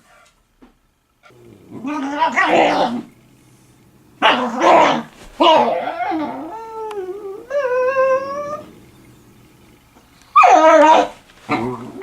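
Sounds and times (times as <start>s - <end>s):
dog whining: 1.3s - 12.0s.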